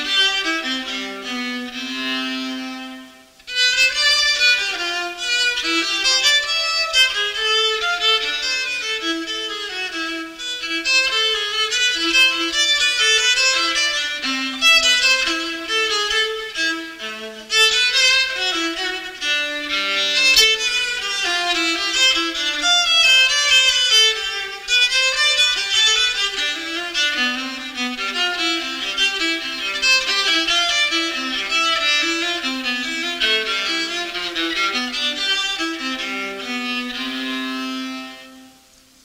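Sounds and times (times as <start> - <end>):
solo violin melody: 0.0 - 39.0.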